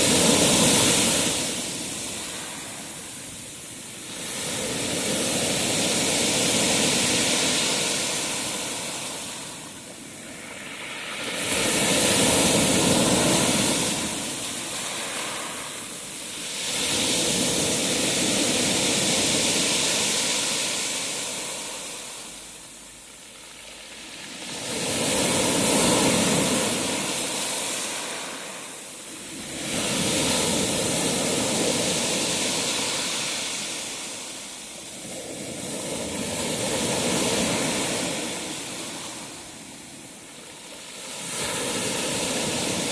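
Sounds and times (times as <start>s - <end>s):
sea waves washing back: 0.0s - 42.9s.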